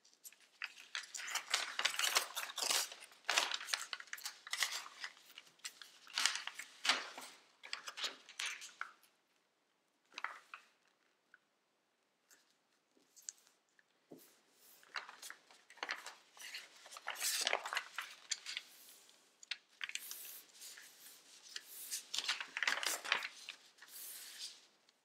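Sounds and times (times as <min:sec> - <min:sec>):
paper rustling and crinkling: 0:00.0 - 0:09.1, 0:10.1 - 0:10.9, 0:13.0 - 0:25.0.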